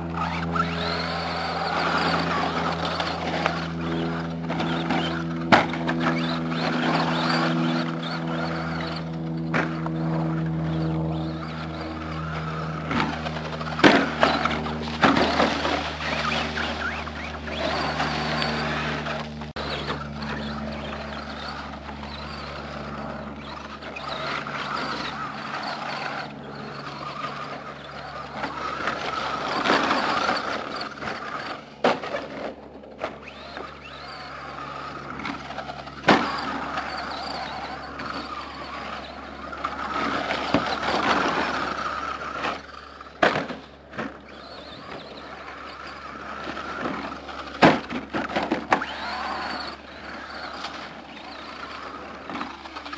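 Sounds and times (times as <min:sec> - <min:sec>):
electric motor and gears whining: 0:00.0 - 0:52.9.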